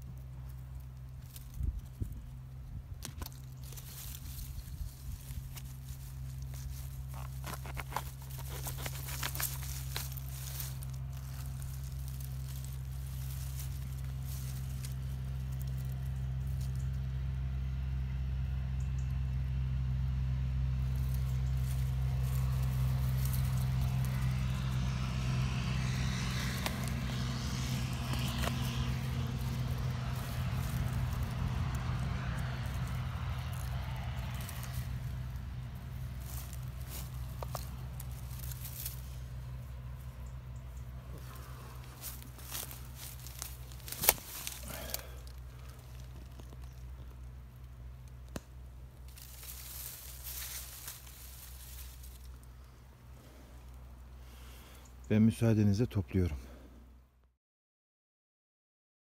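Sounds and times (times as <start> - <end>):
vehicle engine humming: 0.0 - 57.3.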